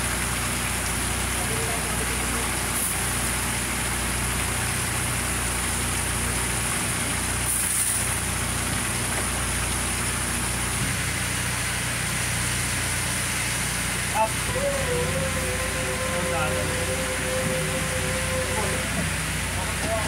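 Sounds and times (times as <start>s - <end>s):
idling engine hum: 0.7s - 20.0s.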